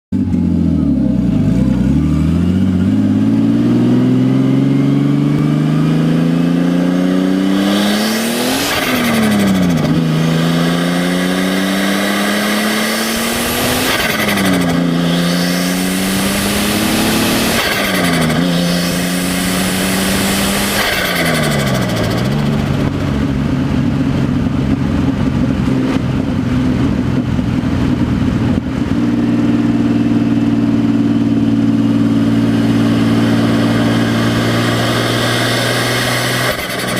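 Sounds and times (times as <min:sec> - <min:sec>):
engine revving: 0:00.2 - 0:36.9.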